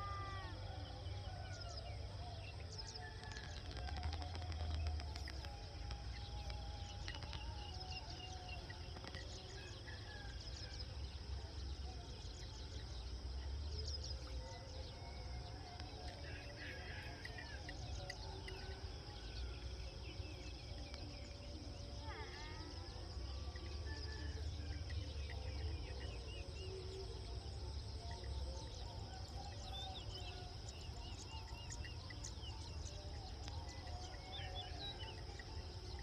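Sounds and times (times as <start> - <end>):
high insect drone: 3.0 - 14.7, 15.7 - 36.0.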